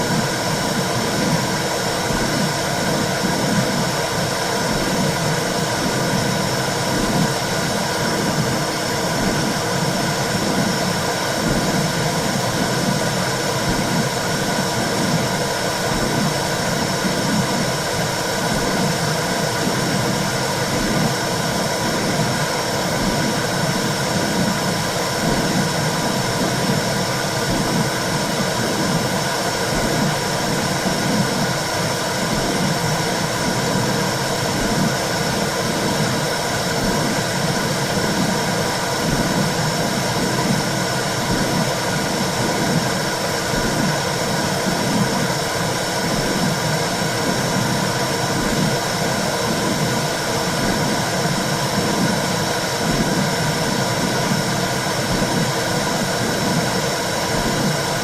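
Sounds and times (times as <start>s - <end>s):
low regular pulse: 0.0s - 58.0s.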